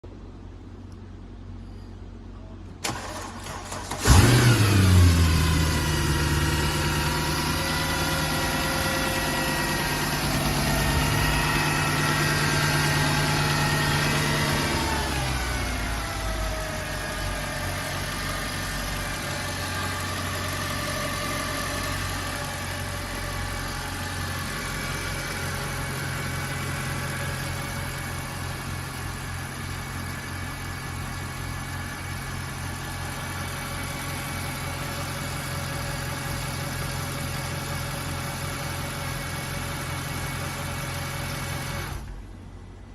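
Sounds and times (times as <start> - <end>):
car engine starting and idling: 0.1 - 42.9.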